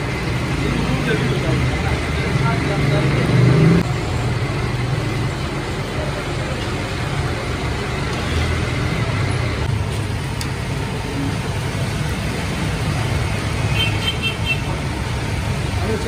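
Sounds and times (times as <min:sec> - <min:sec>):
busy street traffic: 0:00.0 - 0:16.0.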